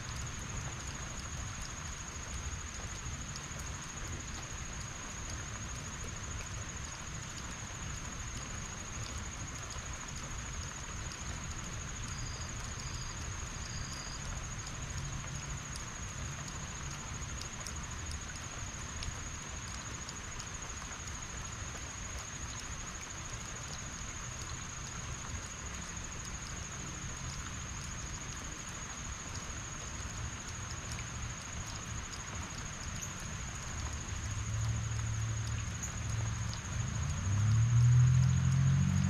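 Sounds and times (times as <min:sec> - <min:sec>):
drip ticks: 0:00.0 - 0:39.0
heavy rain: 0:00.0 - 0:39.0.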